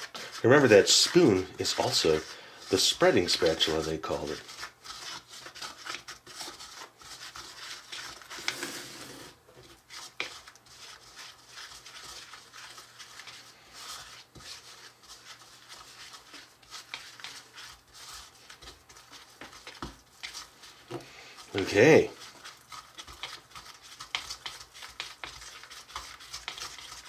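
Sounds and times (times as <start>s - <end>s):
wooden spoon scraping plastic bowl: 0.0s - 27.0s.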